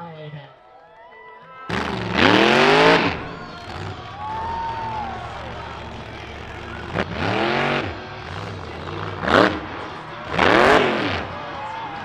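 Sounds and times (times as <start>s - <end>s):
monster truck engine revving: 1.7s - 12.0s.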